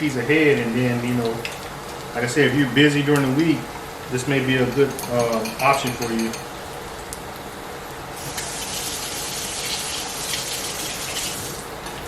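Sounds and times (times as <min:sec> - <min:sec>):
egg rolls deep-frying in oil: 0:00.0 - 0:12.0.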